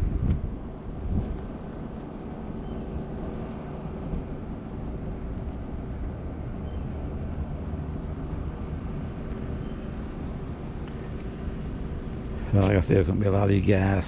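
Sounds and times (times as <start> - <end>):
faint hum: 0.0 - 14.0
vehicle rumble: 0.0 - 14.0.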